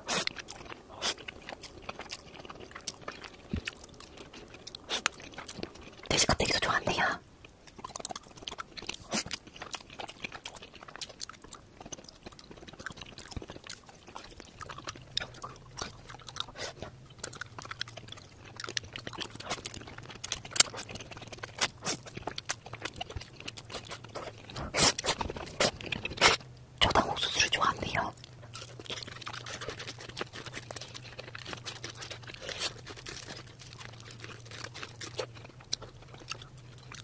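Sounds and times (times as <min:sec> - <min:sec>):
chewing with crisp crunches: 0:00.0 - 0:37.0
faint low hum: 0:00.0 - 0:37.0.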